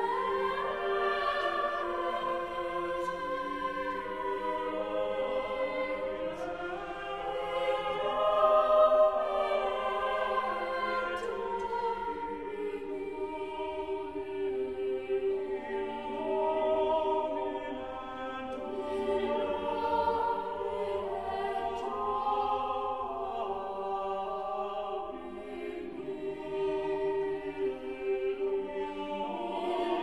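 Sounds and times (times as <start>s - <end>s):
choral music: 0.0s - 30.0s.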